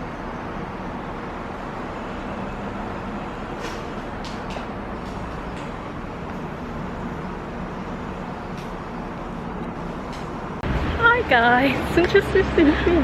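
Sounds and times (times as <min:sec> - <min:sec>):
distant road traffic: 0:00.0 - 0:13.0.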